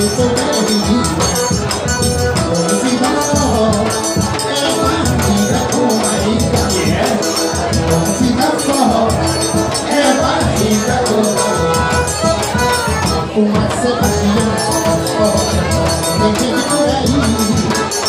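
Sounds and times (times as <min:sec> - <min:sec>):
accordion: 0:00.0 - 0:18.0
bass drum: 0:00.0 - 0:18.0.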